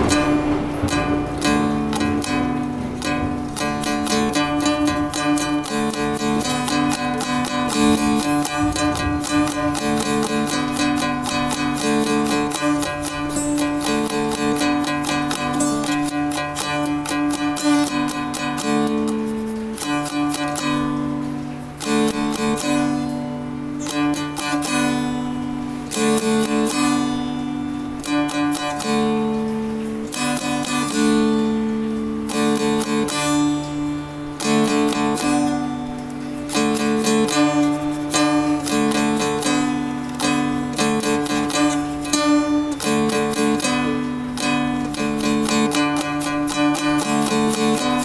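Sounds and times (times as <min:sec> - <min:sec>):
plucked dulcimer melody: 0:00.0 - 0:48.0.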